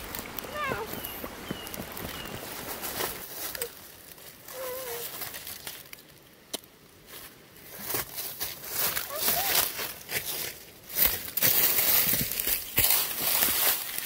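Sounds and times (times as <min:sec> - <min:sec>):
footsteps on dry leaves: 0:00.0 - 0:06.1, 0:07.0 - 0:14.0.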